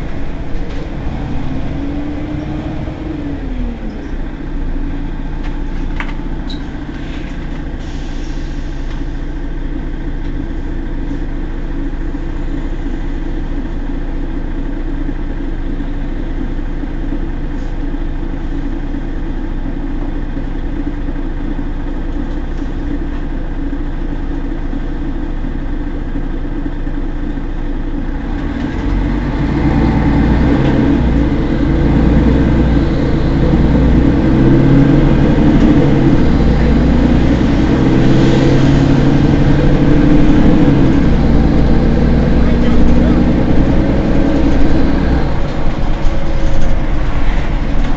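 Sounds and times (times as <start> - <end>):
bus diesel engine idling: 0.0 - 47.9.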